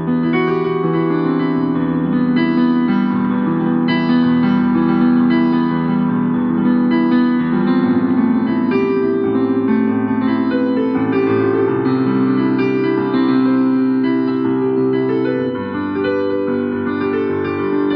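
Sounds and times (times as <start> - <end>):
electric piano chords: 0.0 - 17.9.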